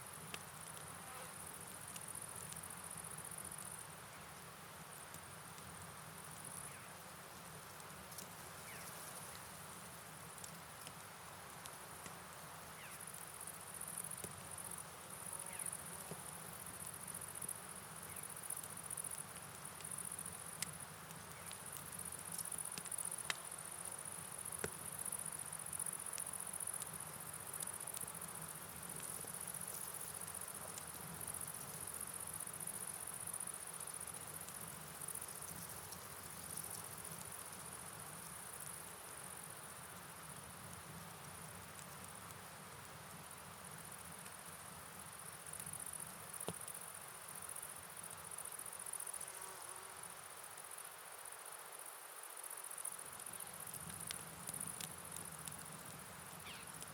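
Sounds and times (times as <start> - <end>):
night insects chirping: 0.0 - 56.9
faint ticks: 0.2 - 3.8, 7.4 - 9.6, 10.2 - 12.2, 12.8 - 42.4, 43.2 - 49.4, 52.4 - 56.9.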